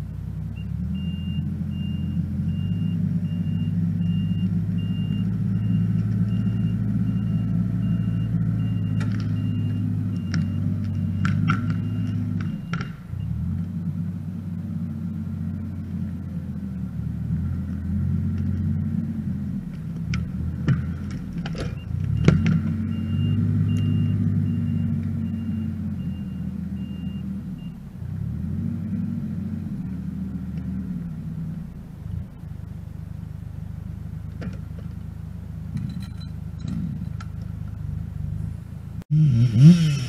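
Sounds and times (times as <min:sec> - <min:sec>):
diesel engine revving: 0:00.0 - 0:40.0.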